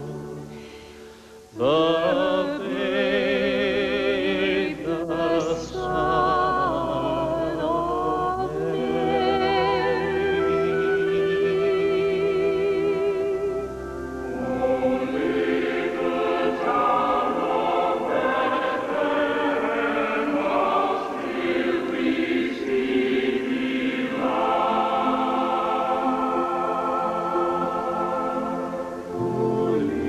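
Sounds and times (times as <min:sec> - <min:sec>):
choir singing sustained chords: 0:00.0 - 0:30.0.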